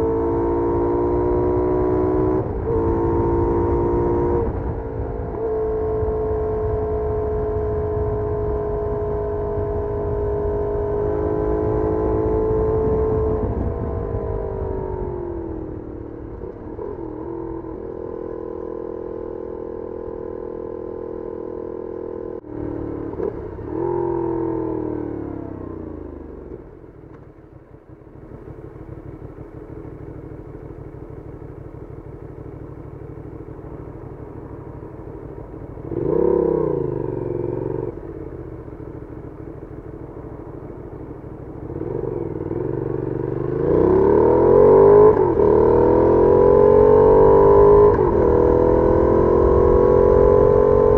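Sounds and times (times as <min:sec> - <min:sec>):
motorcycle engine: 0:00.0 - 0:50.9.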